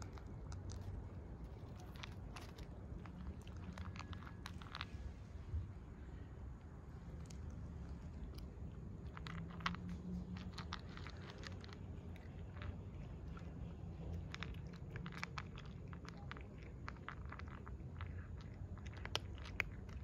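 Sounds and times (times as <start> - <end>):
cat crunching dry kibble: 0.0 - 6.1, 6.7 - 20.0.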